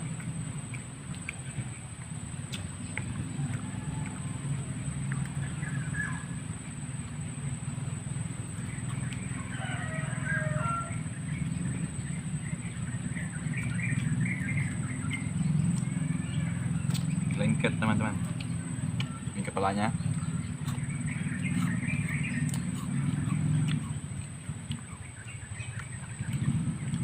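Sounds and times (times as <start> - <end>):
birds chirping: 0.0 - 27.0
steady low rumble: 0.0 - 27.0.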